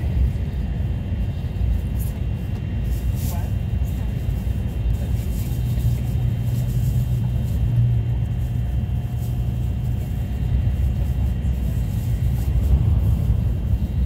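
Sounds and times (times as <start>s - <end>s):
train cabin low rumble: 0.0s - 14.0s.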